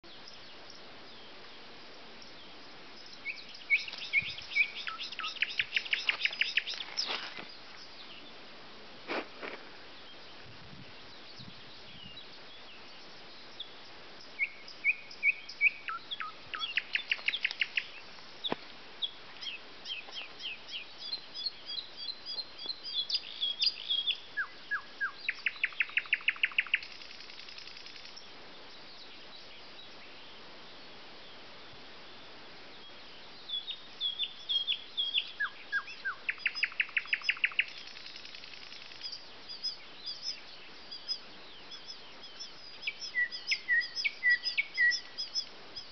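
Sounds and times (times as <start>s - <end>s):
songbirds chirping and trilling: 0.0s - 8.9s, 9.6s - 45.9s.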